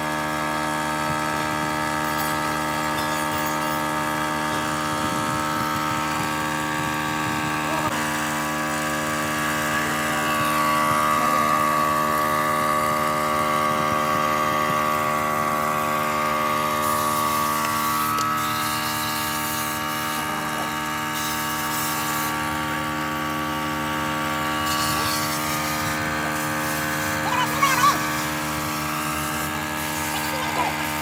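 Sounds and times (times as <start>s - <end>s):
machine droning steadily: 0.0s - 31.0s.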